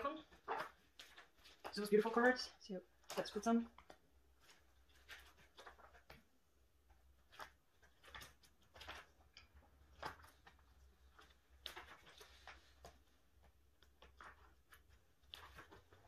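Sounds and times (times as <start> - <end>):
plastic sleeves rustling: 0.0 - 16.0.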